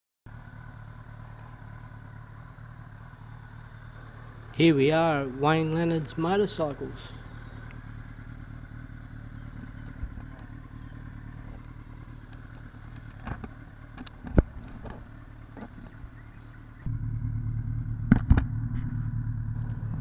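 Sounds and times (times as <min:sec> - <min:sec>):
motorcycle engine idling: 0:00.3 - 0:20.0.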